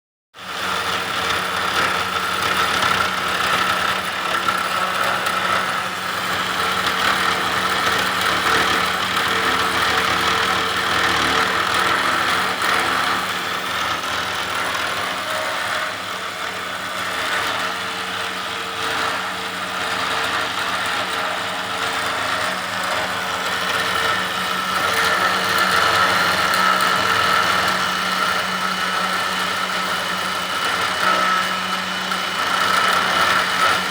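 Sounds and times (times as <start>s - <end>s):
metal cutting noise: 0.4s - 33.9s.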